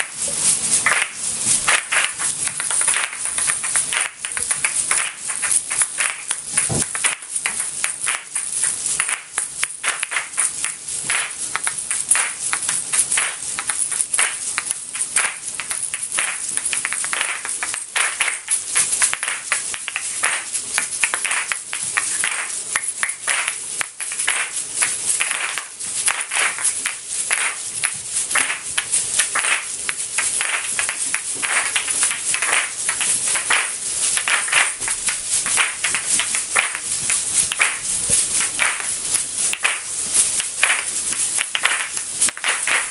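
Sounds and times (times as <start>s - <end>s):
seeds rattling: 0.0s - 42.9s.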